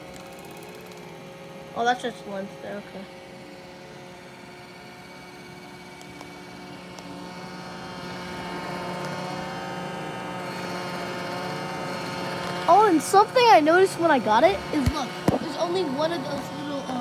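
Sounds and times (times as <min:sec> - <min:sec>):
robot vacuum motor whirring: 0:00.0 - 0:17.0.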